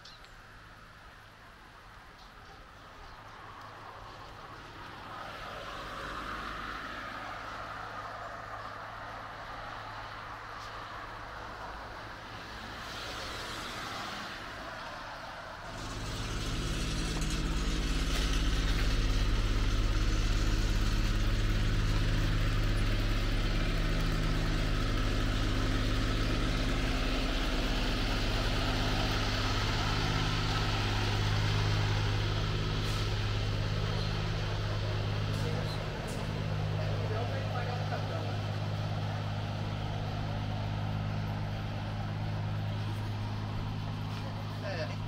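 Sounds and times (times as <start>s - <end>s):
large vehicle engine humming: 0.0s - 45.0s
outdoor street noise: 0.0s - 45.0s.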